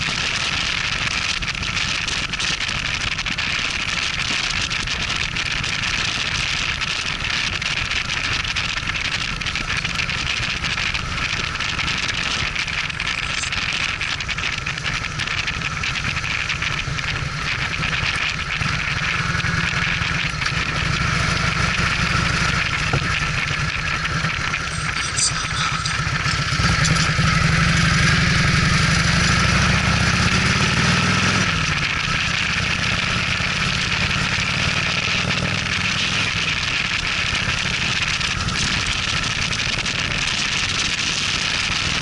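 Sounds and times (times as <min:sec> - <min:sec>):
motorcycle engine drone: 0:00.0 - 0:42.0.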